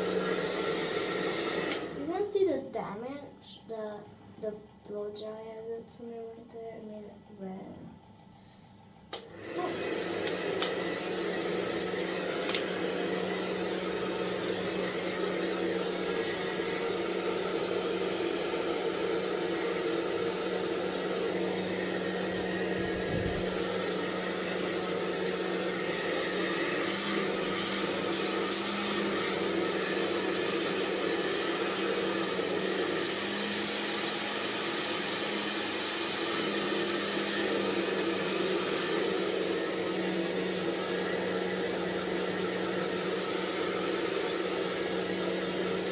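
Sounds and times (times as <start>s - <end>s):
hair dryer blowing: 0.0s - 45.9s.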